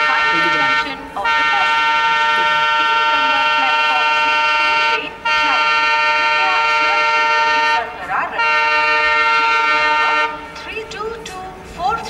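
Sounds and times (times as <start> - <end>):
locomotive multi-tone air horn: 0.0 - 10.6.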